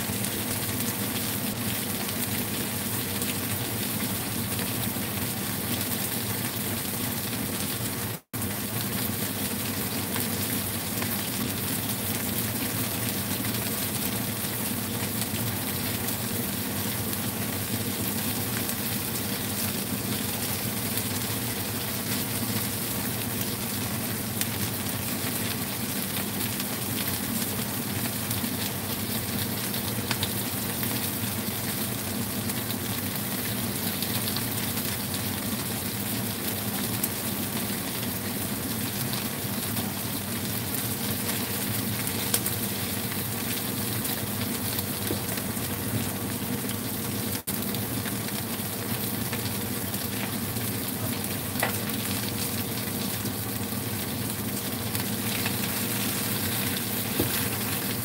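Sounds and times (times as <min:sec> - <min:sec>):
fish sizzling in oil: 0:00.0 - 0:58.0.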